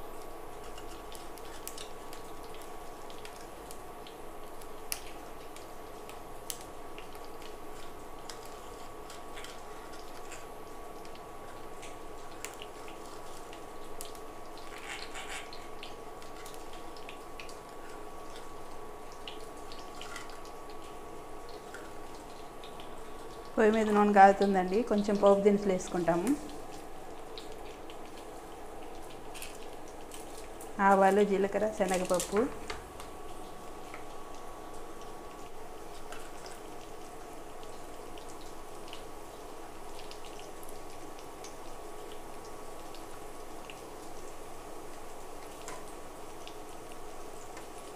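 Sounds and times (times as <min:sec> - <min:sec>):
background hum with high tone: 0:00.0 - 0:47.9
hot oil sizzling with pops: 0:00.1 - 0:47.9.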